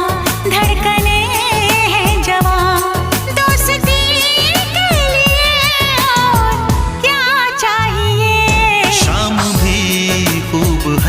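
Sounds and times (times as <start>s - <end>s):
drum beat: 0.0s - 7.0s, 8.0s - 11.0s.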